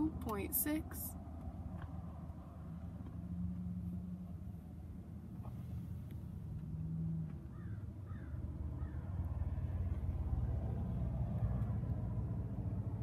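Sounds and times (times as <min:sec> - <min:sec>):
low rumble in car cabin: 0:00.0 - 0:13.0.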